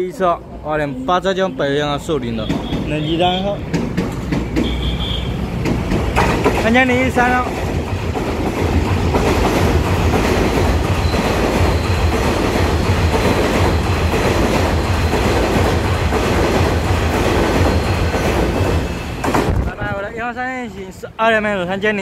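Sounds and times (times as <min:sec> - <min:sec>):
train wheels rumbling on rail: 0:02.0 - 0:20.1.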